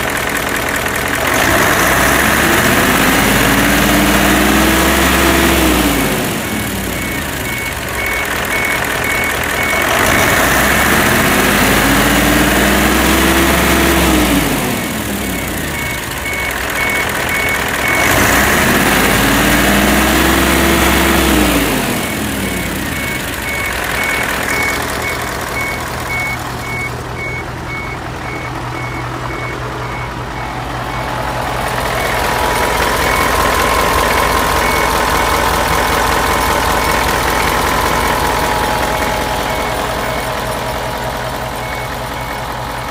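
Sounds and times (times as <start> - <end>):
diesel engine revving and idling: 0.0 - 42.9
high beeping: 3.5 - 42.9.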